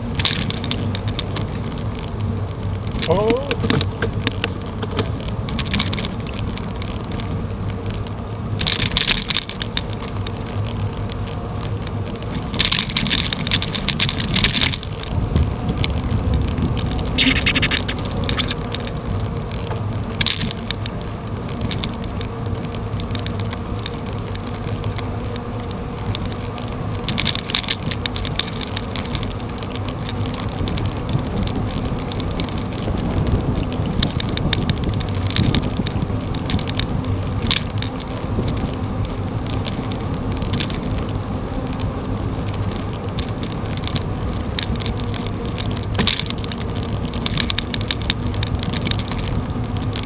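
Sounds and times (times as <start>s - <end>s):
bicycle road rumble: 0.0s - 50.0s
wind noise: 0.0s - 50.0s.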